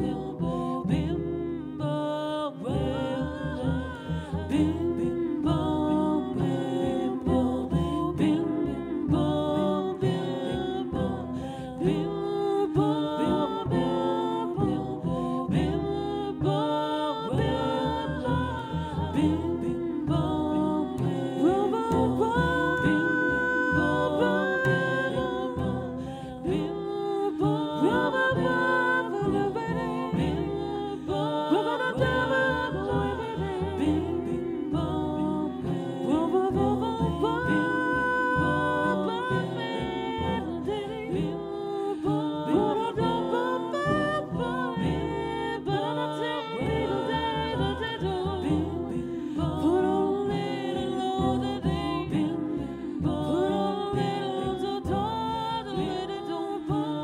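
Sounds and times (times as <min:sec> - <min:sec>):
double bass: 0:00.0 - 0:57.0
woman singing into a microphone: 0:00.0 - 0:57.0.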